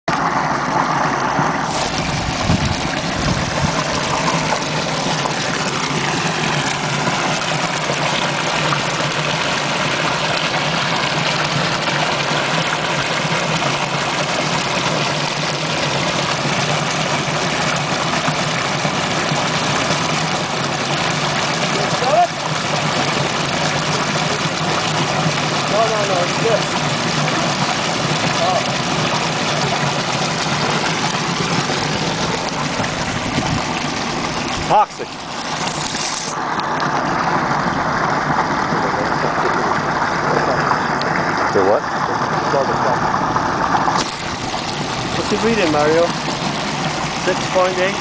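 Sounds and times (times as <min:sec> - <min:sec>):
water pouring and churning: 0:00.0 - 0:48.0.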